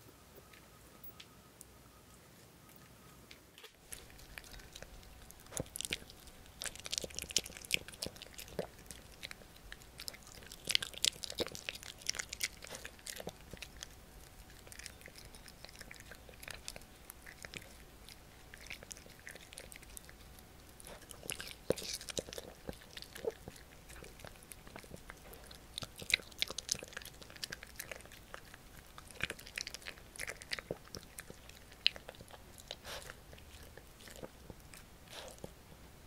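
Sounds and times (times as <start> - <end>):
dog chewing jelly: 3.8 - 35.6.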